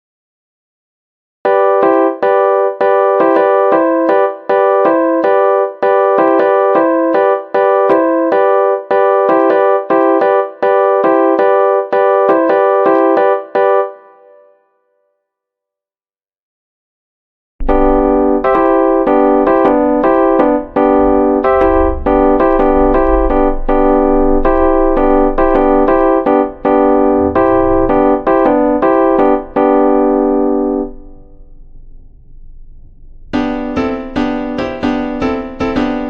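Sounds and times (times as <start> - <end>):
electric keyboard music: 1.4 - 14.6, 17.6 - 31.7, 33.4 - 36.0.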